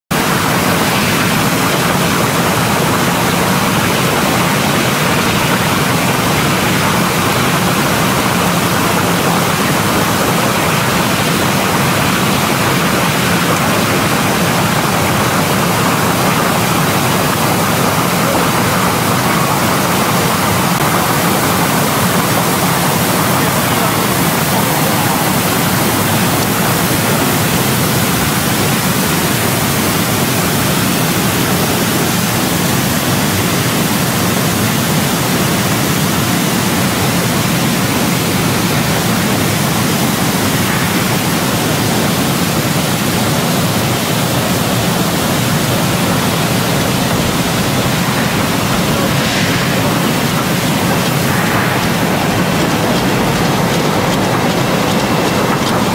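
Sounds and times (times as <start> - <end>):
loud rushing of water: 0.0 - 55.9.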